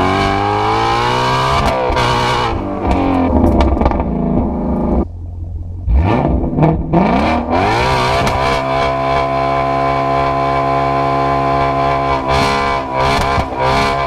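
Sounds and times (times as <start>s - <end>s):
car exhaust revving: 0.0s - 14.0s.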